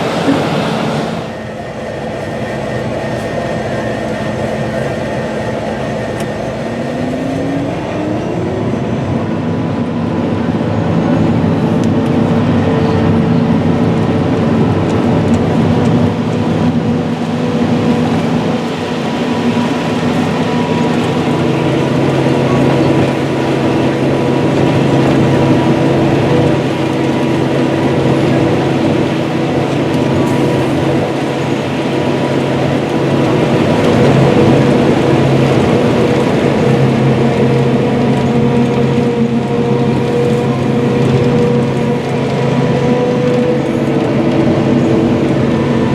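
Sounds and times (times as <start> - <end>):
dense rushing noise: 0.0 - 45.9
heavy diesel engines under load: 0.0 - 45.9.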